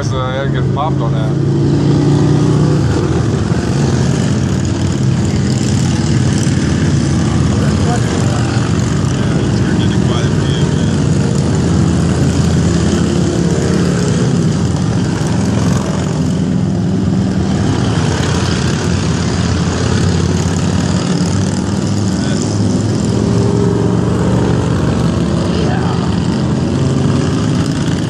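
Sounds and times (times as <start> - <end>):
motorcycles riding past: 0.0 - 28.0.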